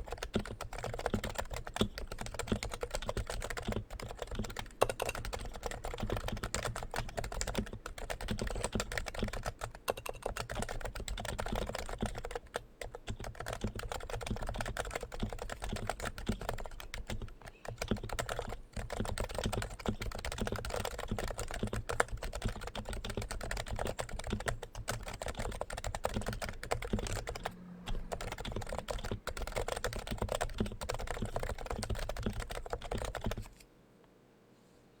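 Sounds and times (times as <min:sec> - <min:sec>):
fast keyboard typing: 0:00.0 - 0:33.6.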